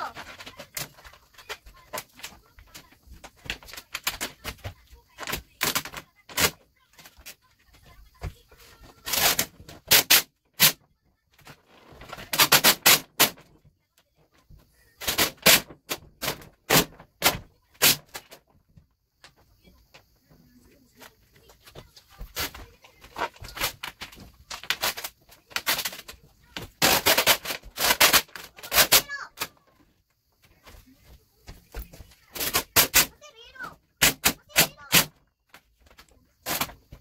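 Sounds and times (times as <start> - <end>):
vinyl film crackling and popping: 0.0 - 37.0.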